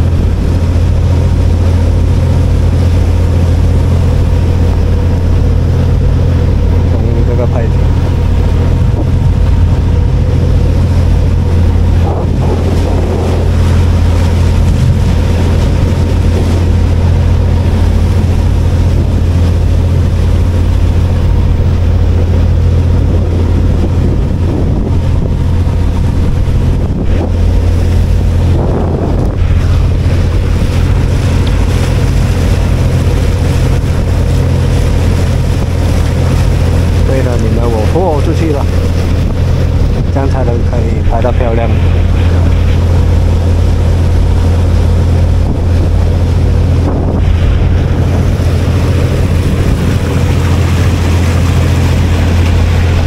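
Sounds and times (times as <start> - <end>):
boat engine drone: 0.0 - 53.0
wind on microphone: 0.0 - 53.0.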